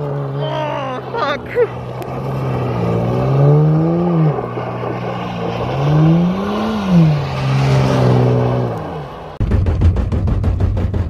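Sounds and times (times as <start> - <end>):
car engine revving: 0.0 - 9.4
wheels spinning on loose dirt: 1.7 - 11.0.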